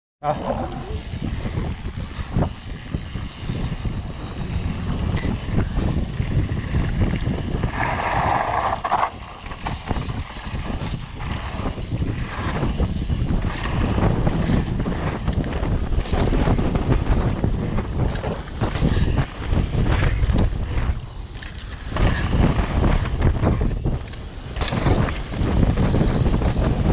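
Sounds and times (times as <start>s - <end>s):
wind buffeting microphone: 0.2s - 26.9s
bike knocks and rattles: 5.0s - 26.9s.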